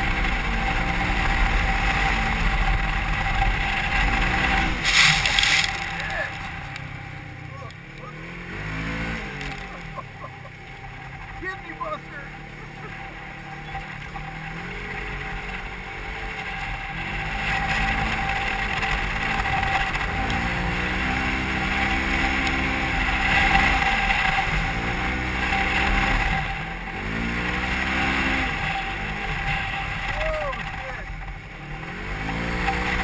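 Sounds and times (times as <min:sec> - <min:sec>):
engine revving: 0:00.0 - 0:33.0
high whine and rushing: 0:00.0 - 0:33.0.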